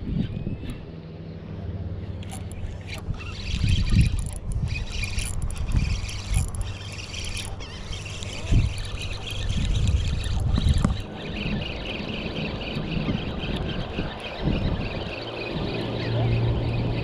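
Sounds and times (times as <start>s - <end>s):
small birds chirping: 0.0s - 17.0s
wind rumbling on microphone: 0.0s - 17.0s.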